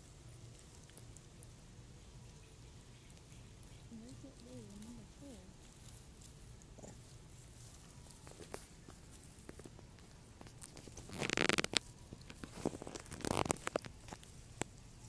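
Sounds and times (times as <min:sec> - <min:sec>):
grass rustling and crackling: 0:00.0 - 0:15.0.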